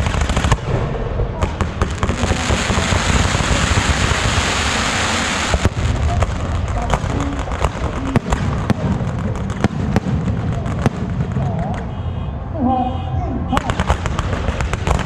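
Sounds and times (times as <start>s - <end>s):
firecrackers crackling: 0.0s - 12.0s, 13.6s - 15.0s
firecracker bangs: 0.0s - 12.1s.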